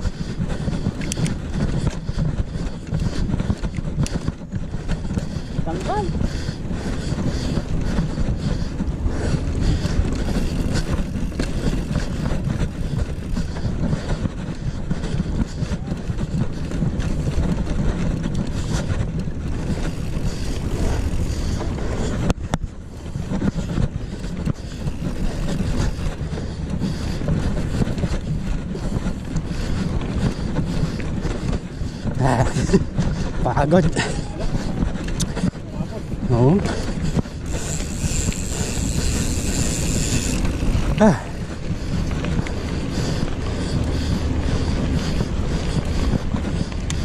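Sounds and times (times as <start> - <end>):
bike tyres rolling on dirt: 0.0 - 47.0
wind buffeting microphone: 0.0 - 47.0.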